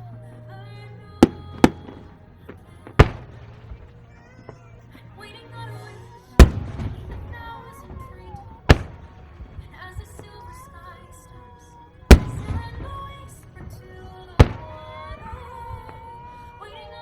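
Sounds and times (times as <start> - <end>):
fireworks bangs: 0.0 - 17.0
fireworks crackle: 0.0 - 17.0
show music: 0.0 - 17.0.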